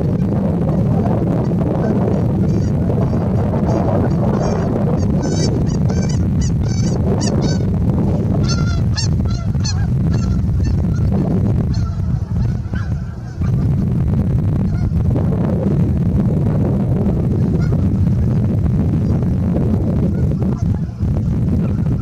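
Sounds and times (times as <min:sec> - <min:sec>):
goose honking: 0:00.0 - 0:13.8, 0:14.6 - 0:15.1, 0:17.1 - 0:19.4, 0:20.0 - 0:22.0
low rumble: 0:00.0 - 0:22.0.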